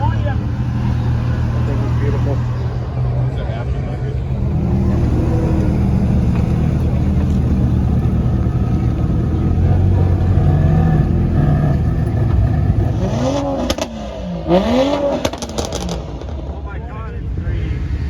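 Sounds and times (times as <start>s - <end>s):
car engine running and revving: 0.0s - 18.0s.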